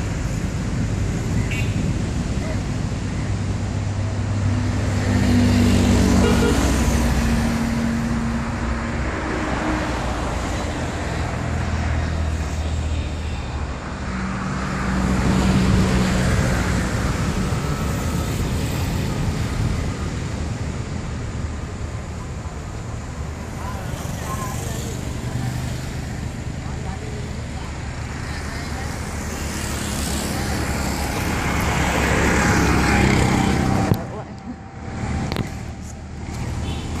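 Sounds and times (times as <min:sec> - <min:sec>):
steady traffic rush: 0:00.0 - 0:37.0
vehicle engines humming past: 0:00.0 - 0:37.0.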